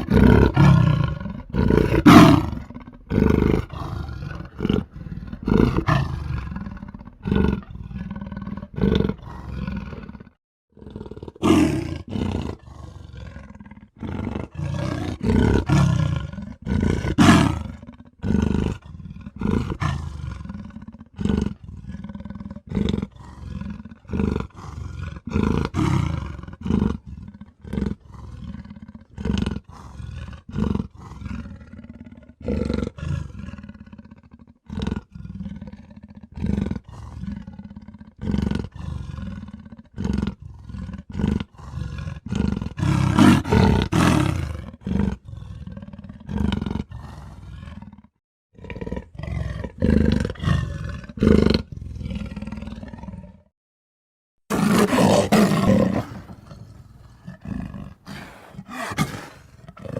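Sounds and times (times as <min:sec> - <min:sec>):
roar sound effects: 0:00.0 - 0:53.5, 0:54.5 - 0:59.9.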